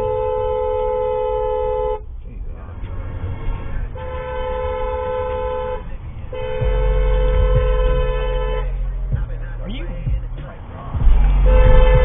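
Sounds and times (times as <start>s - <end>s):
car horn honking: 0.0s - 10.6s, 11.3s - 12.0s
engine and road noise rumble: 0.0s - 12.0s.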